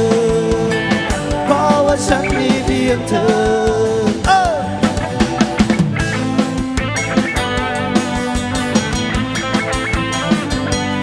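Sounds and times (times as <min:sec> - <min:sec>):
drum-kit beat: 0:00.0 - 0:11.0
guitar: 0:00.0 - 0:11.0.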